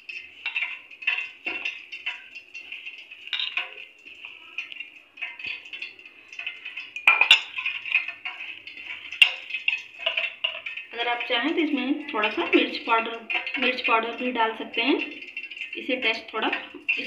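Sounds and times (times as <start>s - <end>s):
hand kneading dough in metal bowl: 0.0s - 17.0s.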